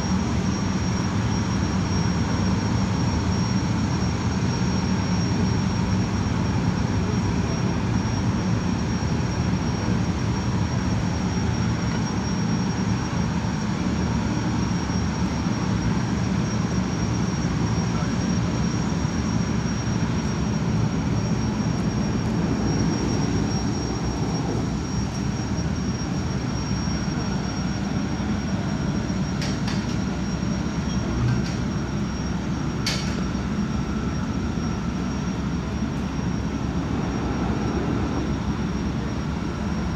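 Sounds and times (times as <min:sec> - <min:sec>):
gas turbines rumbling and whining: 0:00.0 - 0:39.9.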